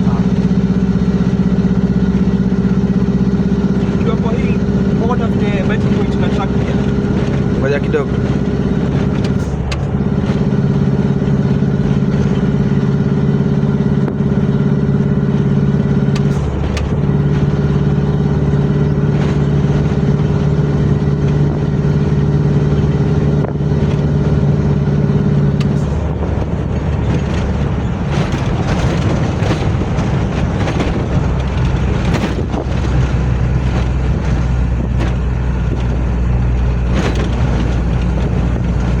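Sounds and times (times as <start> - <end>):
diesel truck engine running: 0.0 - 39.0
engine clicks and knocks: 0.0 - 39.0.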